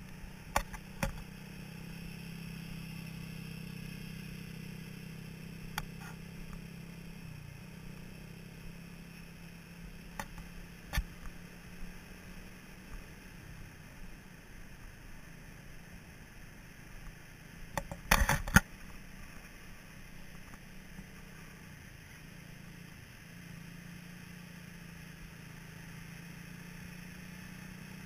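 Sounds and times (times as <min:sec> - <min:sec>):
buggy engine droning: 0:00.0 - 0:28.0.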